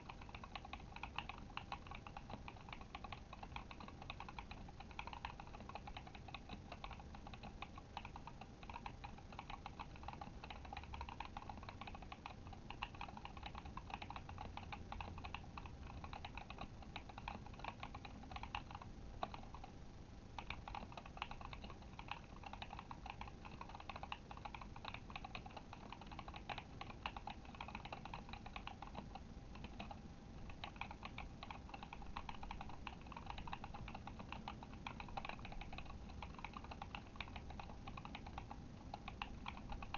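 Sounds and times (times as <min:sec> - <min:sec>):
mechanical keyboard typing: 0:00.0 - 0:19.7, 0:20.4 - 0:39.9.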